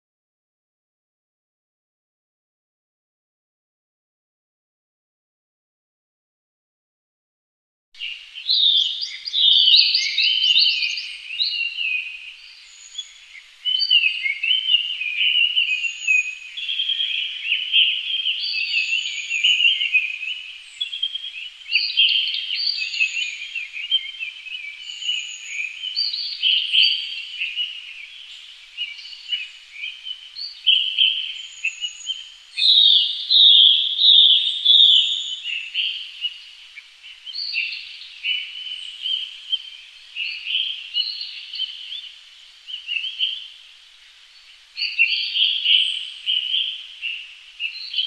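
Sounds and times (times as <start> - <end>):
birds chirping: 8.0 - 48.0.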